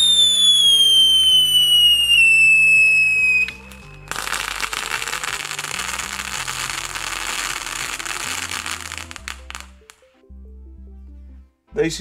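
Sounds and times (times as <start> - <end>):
firework whistling howl: 0.0 - 9.8
firework crackling: 0.0 - 10.0
background music: 0.0 - 12.0.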